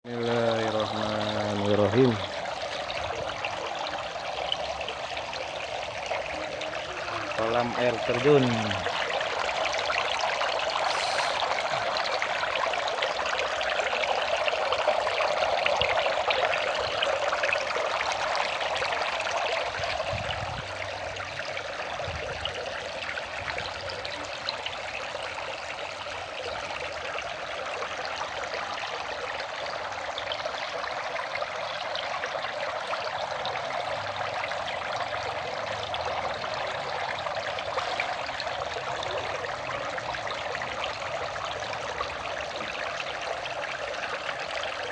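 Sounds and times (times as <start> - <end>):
waterfall splashing into pond: 0.1 - 44.9.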